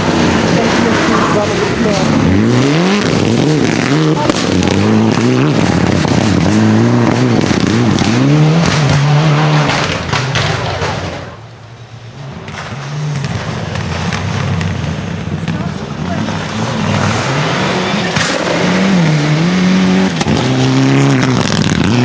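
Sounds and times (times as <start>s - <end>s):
exhaust crackles: 0.0s - 22.0s
rally car engine revving: 0.0s - 22.0s.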